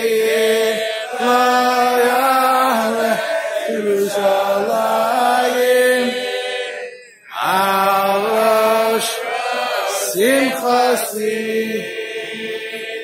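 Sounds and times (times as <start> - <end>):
men singing in unison: 0.0 - 13.0.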